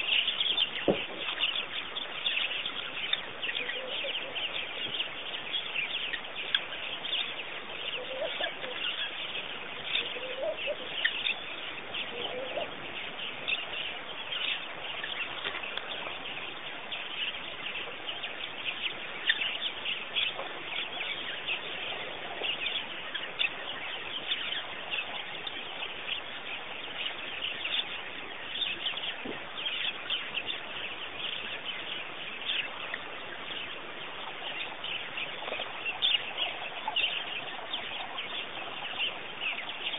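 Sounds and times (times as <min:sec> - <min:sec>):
lower bird calls: 0:00.0 - 0:39.9
small birds chirping: 0:00.0 - 0:39.9.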